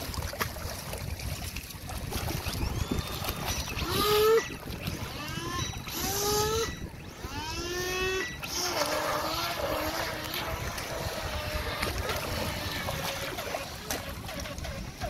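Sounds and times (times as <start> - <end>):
electric motor whining: 2.7 - 15.0.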